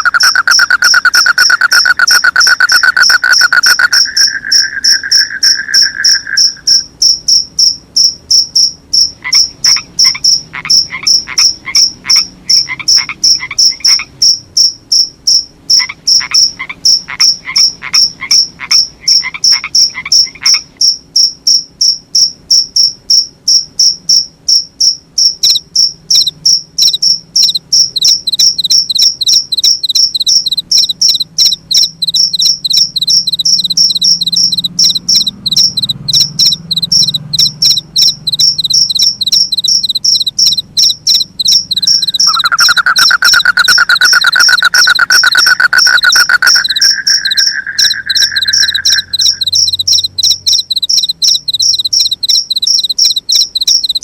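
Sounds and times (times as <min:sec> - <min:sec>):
frog croaking: 0:00.0 - 0:21.0, 0:25.2 - 0:54.0
crickets chirping: 0:00.0 - 0:54.0
insect trill: 0:00.0 - 0:54.0.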